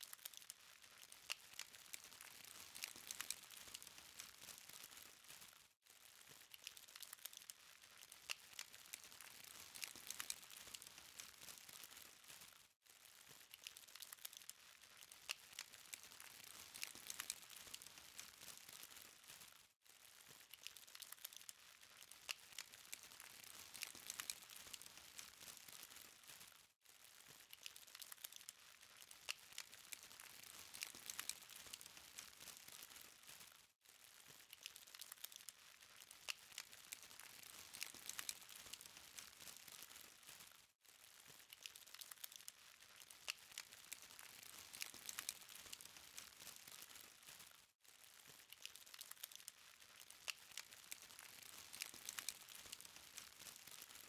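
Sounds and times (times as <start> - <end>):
burning charcoal crackling: 0.0 - 54.0.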